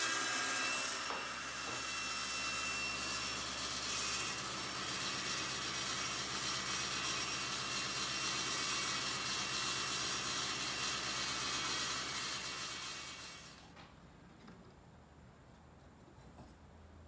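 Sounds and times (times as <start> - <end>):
table saw whining: 0.0 - 13.7.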